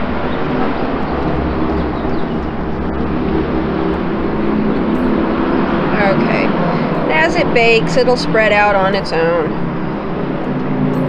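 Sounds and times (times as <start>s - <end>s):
low hum: 0.0s - 11.0s
steady mechanical rumble: 0.0s - 11.0s.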